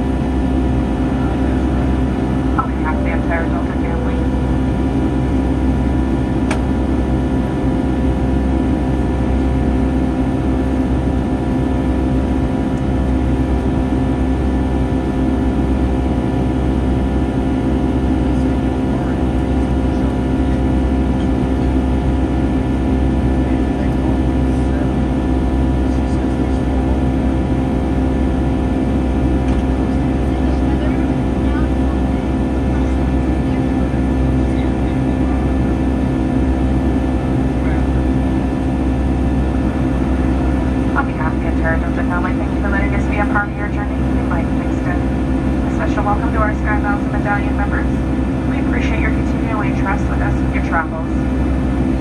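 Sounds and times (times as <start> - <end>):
jet engine drone in cabin: 0.0 - 52.0
steady humming tones: 0.0 - 52.0.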